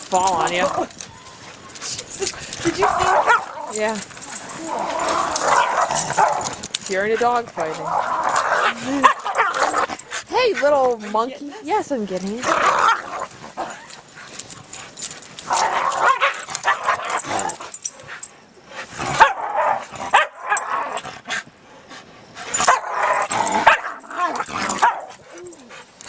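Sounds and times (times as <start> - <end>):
dogs barking and yipping: 0.0 - 21.6, 22.4 - 26.0.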